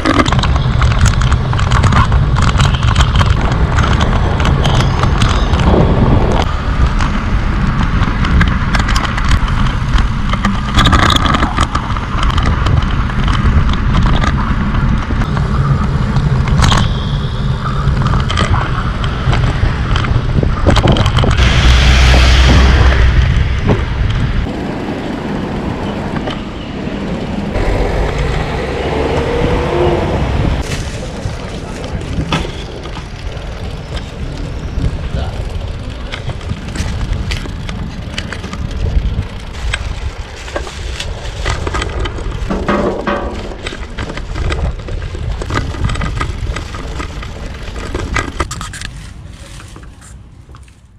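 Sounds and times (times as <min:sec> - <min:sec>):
wind on microphone: 0:00.0 - 0:50.6
bicycle riding rush: 0:00.0 - 0:50.9
road rumble: 0:00.0 - 0:50.9
vehicle traffic: 0:00.0 - 0:50.9.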